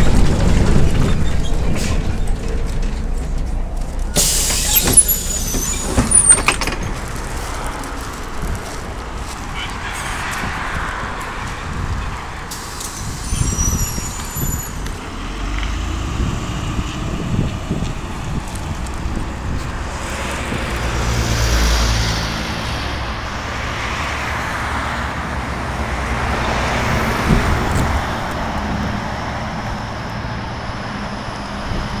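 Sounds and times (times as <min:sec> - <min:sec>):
bus diesel engine pulling away: 0:00.0 - 0:32.0
road traffic: 0:00.0 - 0:32.0.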